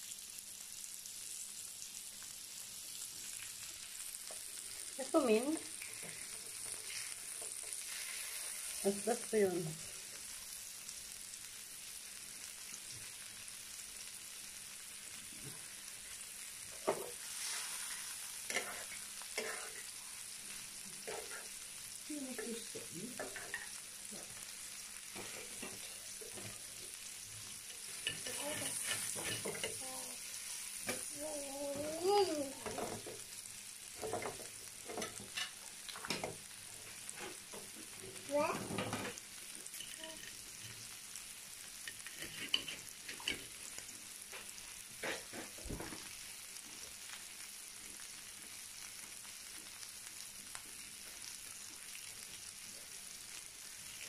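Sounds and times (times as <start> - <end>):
food sizzling in hot fat: 0.0 - 54.0.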